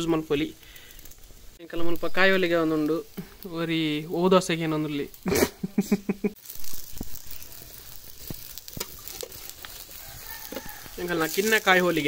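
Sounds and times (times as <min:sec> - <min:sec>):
flatbread sizzling in ghee: 0:00.0 - 0:12.0.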